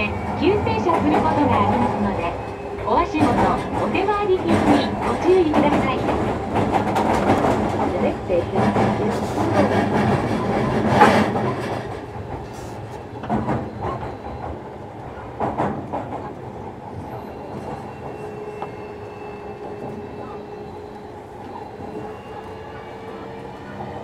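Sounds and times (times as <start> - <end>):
rail-joint clicks: 0.0 - 24.0
train wheel and track noise: 0.0 - 24.0.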